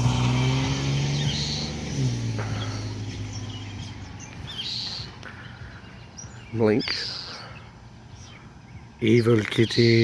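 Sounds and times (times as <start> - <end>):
vehicle engine humming: 0.0 - 10.0
bird alarm chirps: 1.1 - 1.8, 2.6 - 10.0.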